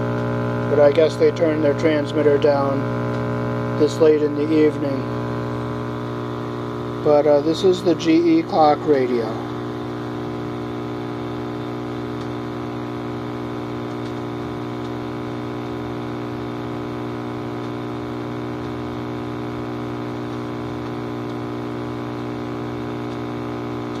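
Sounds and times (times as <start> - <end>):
radio buzzing hum: 0.0 - 24.0
radio static hiss: 0.2 - 23.9.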